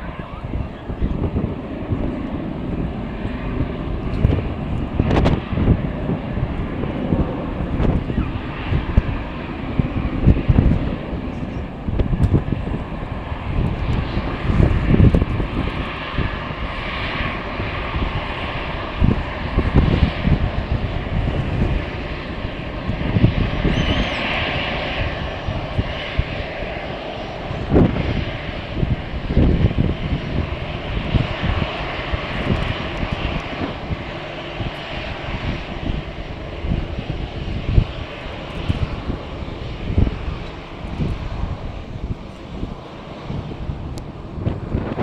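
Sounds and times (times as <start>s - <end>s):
jet engines running: 0.0s - 45.0s
wind buffeting microphone: 0.0s - 45.0s.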